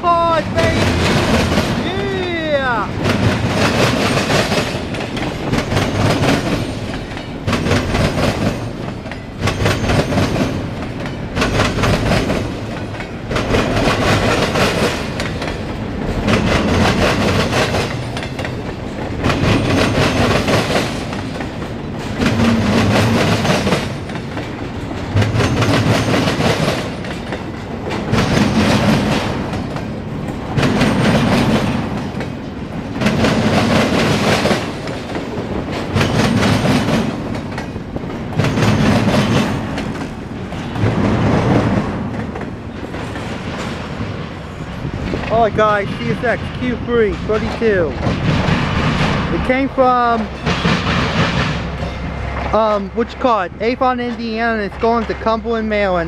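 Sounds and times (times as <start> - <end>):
freight train cars rolling past: 0.0 - 56.0
wheels clattering over rail joints: 0.4 - 56.0.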